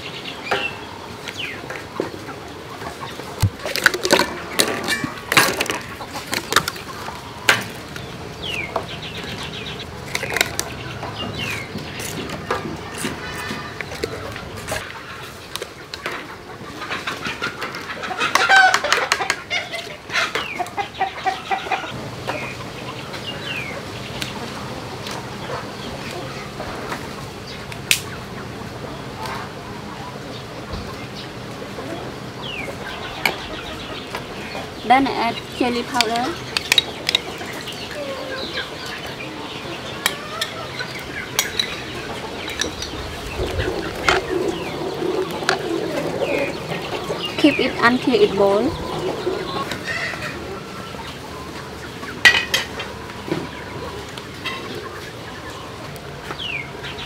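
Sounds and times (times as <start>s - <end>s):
birds calling: 0.0s - 57.0s
chickens clucking: 0.0s - 57.0s.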